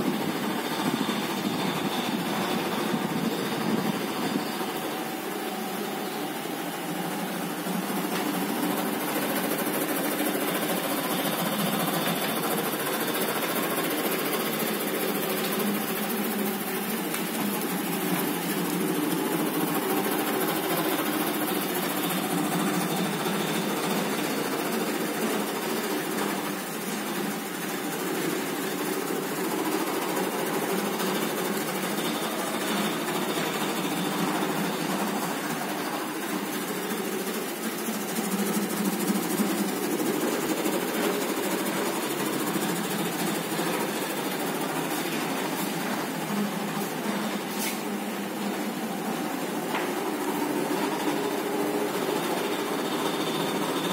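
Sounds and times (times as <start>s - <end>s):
laminating machine running: 0.0s - 53.9s.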